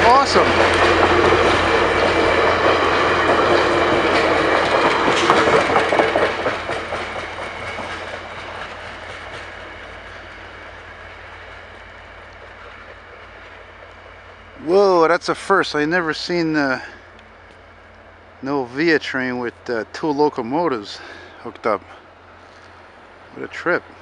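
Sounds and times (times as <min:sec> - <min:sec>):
train cars rolling past: 0:00.0 - 0:24.0
wheels clicking over rail joints: 0:00.0 - 0:24.0.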